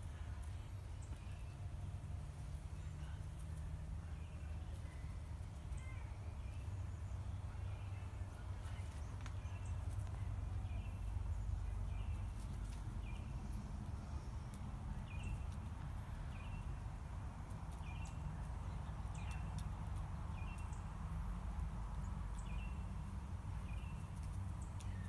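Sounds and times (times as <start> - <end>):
steady low rumble: 0.0 - 25.0
bird chirping: 0.4 - 16.9, 17.5 - 25.0.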